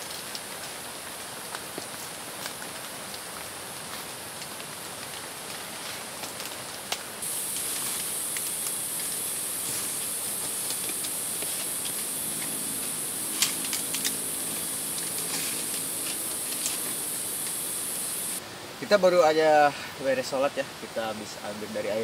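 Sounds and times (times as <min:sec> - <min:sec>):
leaves and stalks snapping: 0:00.0 - 0:18.4
cicadas droning: 0:00.0 - 0:22.0.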